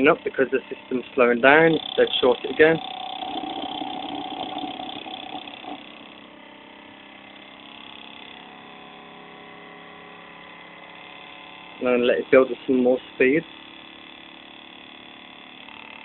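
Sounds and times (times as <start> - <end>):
small motor whine and hum: 0.0 - 16.0.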